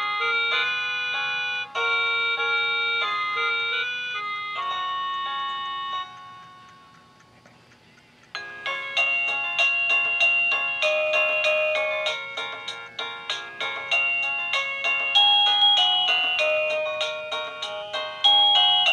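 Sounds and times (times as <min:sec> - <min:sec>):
electronic doorbell chime melody: 0:00.0 - 0:06.7, 0:08.4 - 0:18.9.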